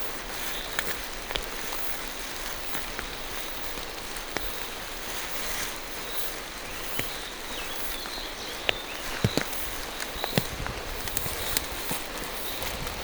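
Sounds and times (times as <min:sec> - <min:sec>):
rain falling through forest: 0:00.0 - 0:13.0.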